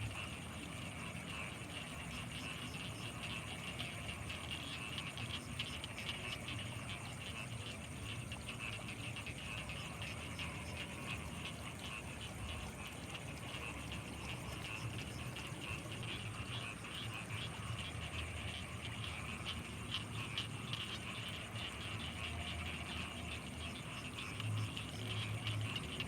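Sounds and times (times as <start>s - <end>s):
frogs croaking in chorus: 0.0s - 26.0s.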